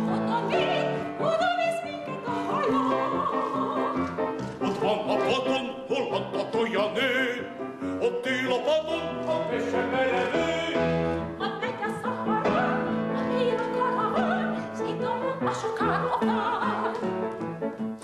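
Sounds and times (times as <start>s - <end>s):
classical voice singing with vibrato: 0.0s - 17.5s.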